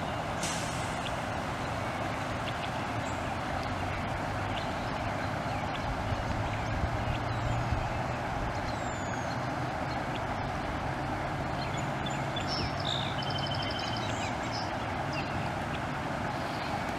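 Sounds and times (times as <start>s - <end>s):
floodwater rushing: 0.0s - 16.9s
low engine hum: 0.0s - 16.9s.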